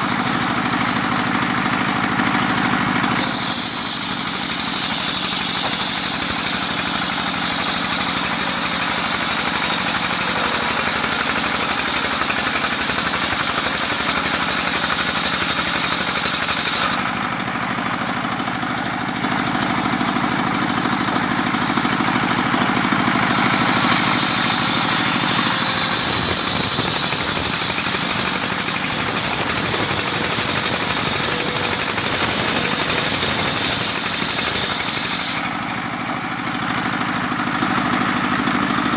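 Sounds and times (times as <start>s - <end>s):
sawmill engine running: 0.0s - 38.9s
saw cutting wood hiss: 2.6s - 35.7s.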